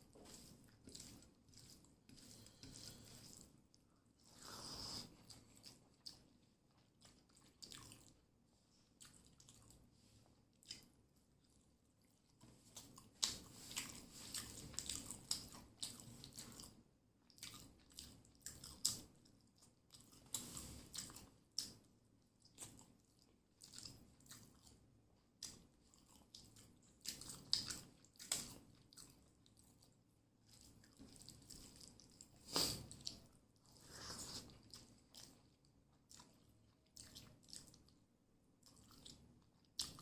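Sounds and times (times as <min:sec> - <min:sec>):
person chewing food: 0:00.0 - 0:38.0, 0:38.6 - 0:40.0.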